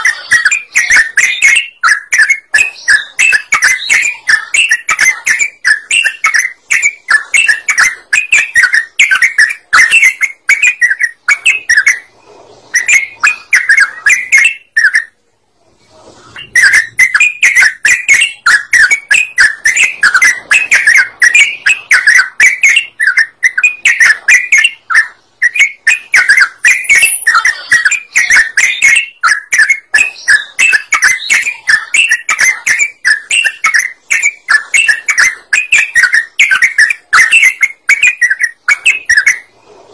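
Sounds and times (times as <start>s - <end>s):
bird chattering song: 0.0s - 15.2s, 16.3s - 39.5s.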